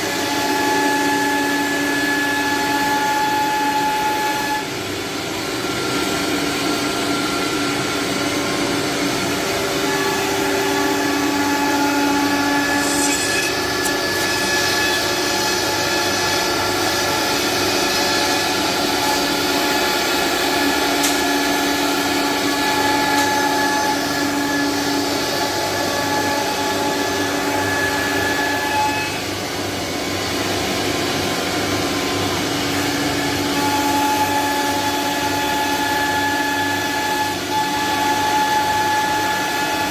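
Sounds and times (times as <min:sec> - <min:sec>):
cnc router whining: 0:00.0 - 0:39.9.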